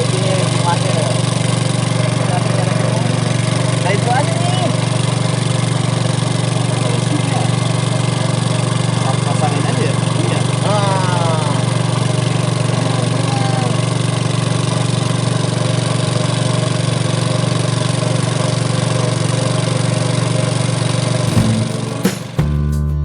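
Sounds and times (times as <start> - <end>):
small engine running: 0.0 - 22.4.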